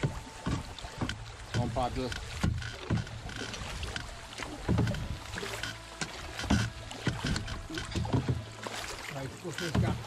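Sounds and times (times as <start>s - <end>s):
canoe paddles stroking water: 0.0s - 10.0s
water rushing past hull: 0.0s - 10.0s.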